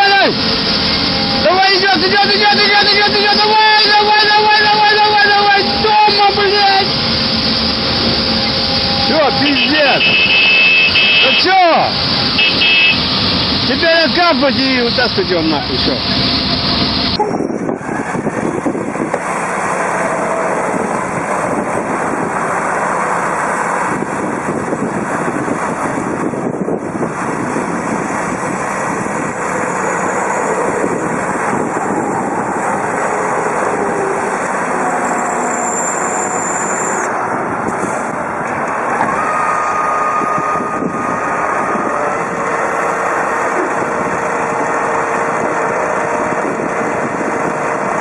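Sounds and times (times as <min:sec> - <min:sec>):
heavy vehicle engine running: 0:00.0 - 0:48.0.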